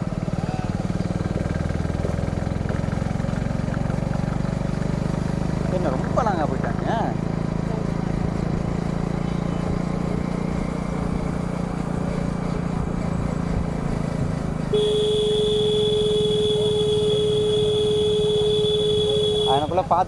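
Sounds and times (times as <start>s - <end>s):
road and wind noise: 0.0s - 20.0s
vehicle engine hum: 0.0s - 20.0s.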